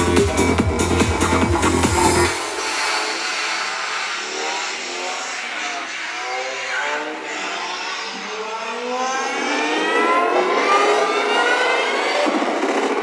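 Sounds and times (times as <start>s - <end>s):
rising synth riser: 0.0s - 13.0s.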